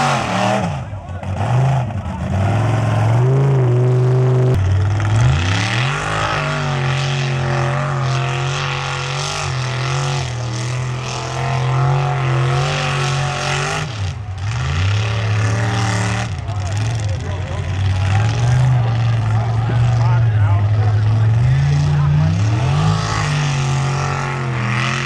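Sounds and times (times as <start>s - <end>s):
pickup engine revving: 0.0s - 25.0s.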